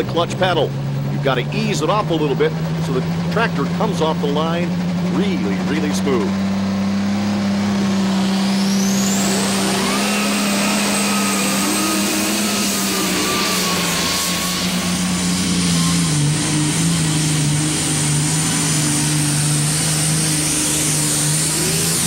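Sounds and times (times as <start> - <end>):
tractor diesel engine at full throttle: 0.0 - 22.0.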